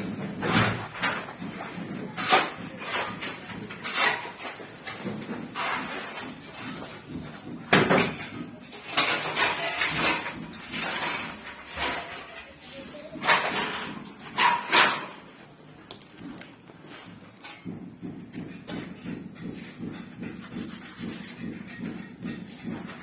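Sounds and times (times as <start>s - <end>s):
hard objects knocking and clanking: 0.0s - 23.0s
hard objects scraping: 0.0s - 23.0s.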